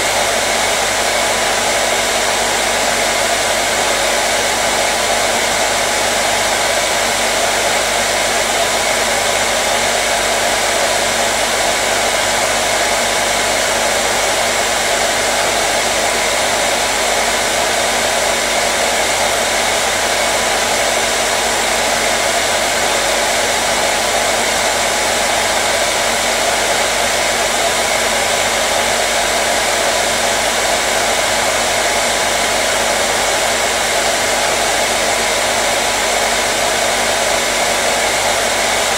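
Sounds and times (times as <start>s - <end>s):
hair dryer blowing air: 0.0s - 38.9s.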